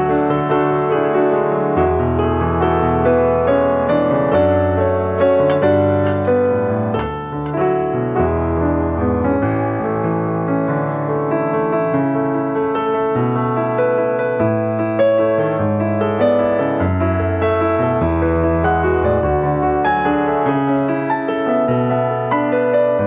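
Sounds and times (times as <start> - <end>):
background piano music: 0.0 - 23.0.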